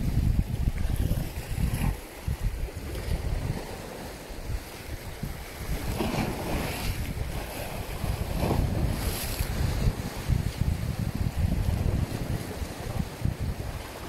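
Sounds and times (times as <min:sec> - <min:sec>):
choppy sea waves: 0:00.0 - 0:14.0
wind buffeting microphone: 0:00.0 - 0:14.0.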